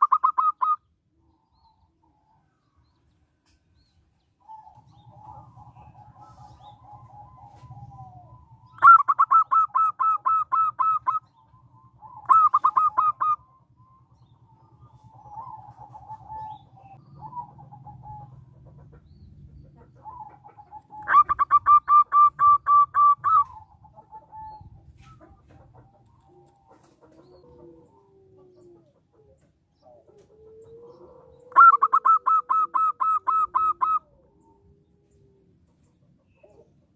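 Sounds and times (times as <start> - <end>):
dove cooing trills: 0.0 - 2.9, 4.2 - 36.9.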